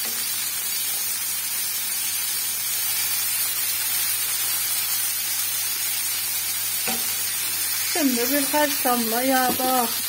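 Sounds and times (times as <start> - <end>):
chicken frying in sizzling oil: 0.0 - 10.0.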